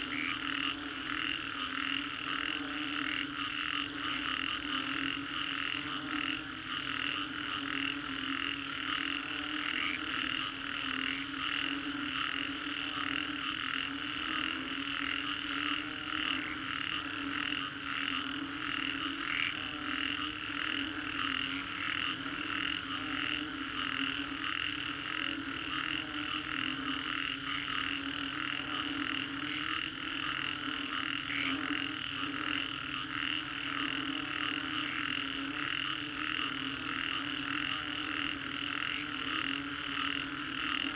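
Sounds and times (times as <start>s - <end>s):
chorus of frogs calling: 0.0s - 40.9s.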